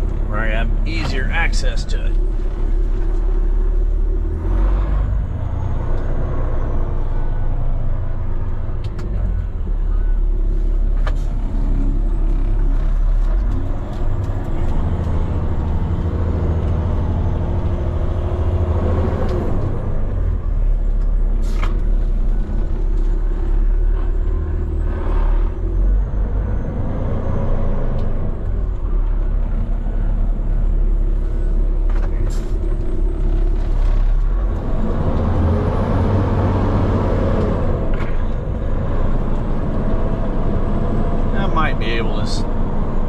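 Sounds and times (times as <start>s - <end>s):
truck diesel engine running: 0.0s - 43.0s.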